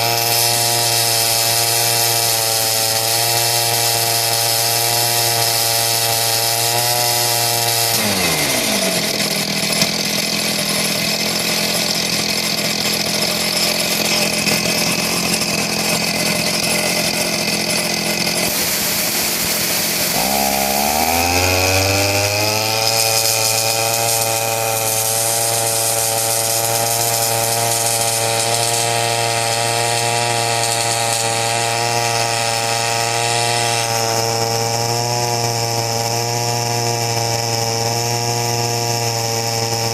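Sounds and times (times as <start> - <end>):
air compressor engine running: 0.0 - 38.0.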